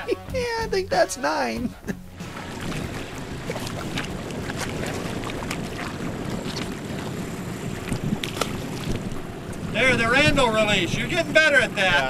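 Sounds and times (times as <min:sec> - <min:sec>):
water splashes: 0:02.1 - 0:12.0
wind buffeting microphone: 0:02.1 - 0:12.0.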